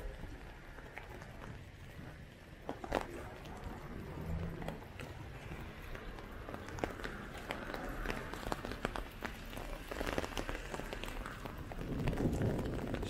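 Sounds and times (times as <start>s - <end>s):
hailstones ticking on ground: 0.0s - 13.0s
rain hissing: 0.0s - 13.0s.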